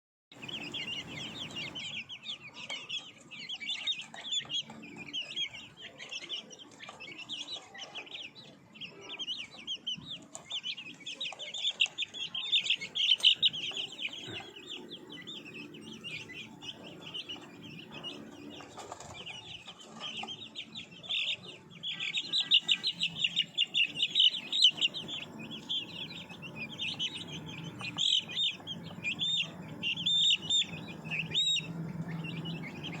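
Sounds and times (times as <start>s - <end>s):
chicks peeping: 0.3s - 33.0s.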